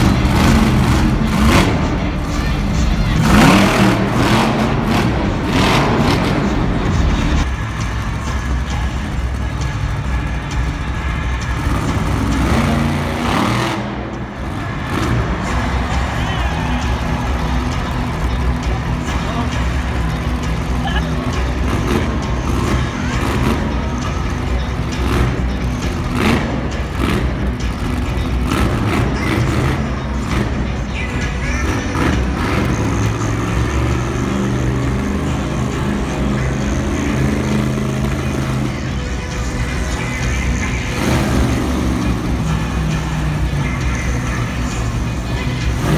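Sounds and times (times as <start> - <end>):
truck engine revving: 0.0 - 45.9.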